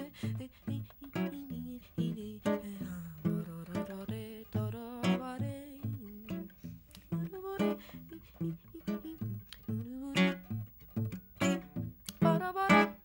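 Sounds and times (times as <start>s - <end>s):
acoustic guitar plucking and strumming: 0.0s - 13.0s.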